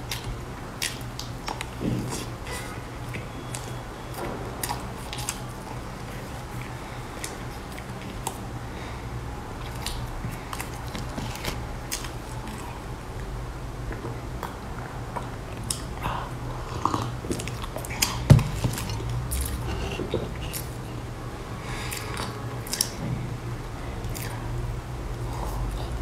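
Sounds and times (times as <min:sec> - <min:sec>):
chewing with wet mouth clicks: 0:00.0 - 0:08.5, 0:09.6 - 0:13.3, 0:13.9 - 0:20.8, 0:21.8 - 0:23.1, 0:24.0 - 0:24.5
steady low hum: 0:00.0 - 0:26.0.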